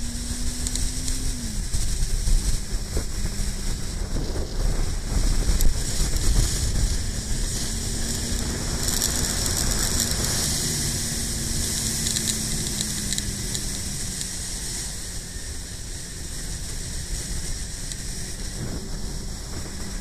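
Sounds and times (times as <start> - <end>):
motorcycle engine hum: 0.0 - 20.0
wind buffeting microphone: 0.0 - 20.0.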